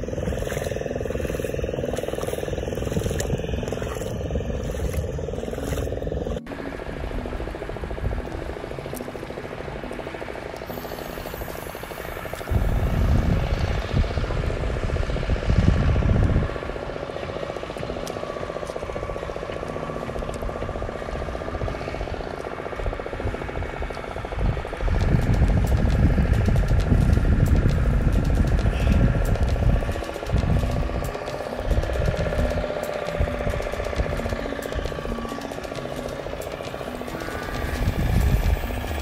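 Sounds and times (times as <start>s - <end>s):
wind buffeting microphone: 0.0s - 8.9s, 11.8s - 39.0s
engine hum: 0.0s - 39.0s.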